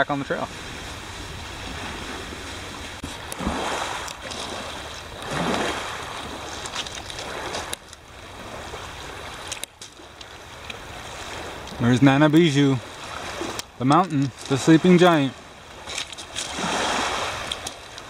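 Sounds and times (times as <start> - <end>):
waves washing onto pebble beach: 0.4 - 18.0.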